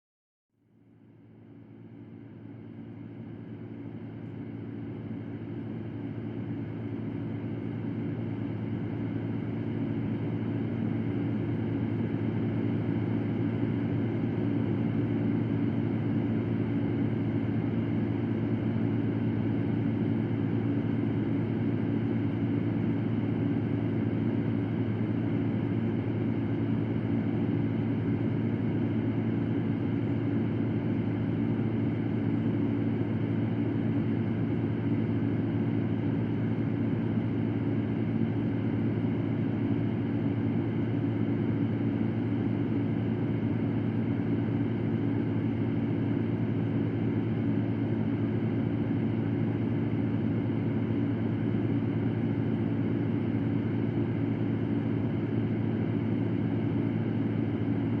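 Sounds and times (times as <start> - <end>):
electric fan running: 2.0 - 58.0.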